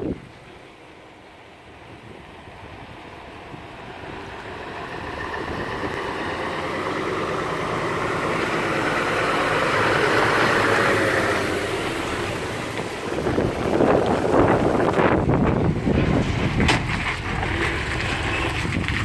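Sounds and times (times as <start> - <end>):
diesel truck engine climbing hill: 0.0 - 19.0.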